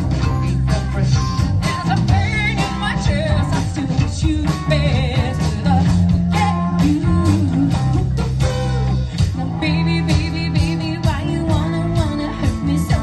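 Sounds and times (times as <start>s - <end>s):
band playing rock-soul song: 0.0s - 13.0s
lead singer singing: 0.0s - 13.0s.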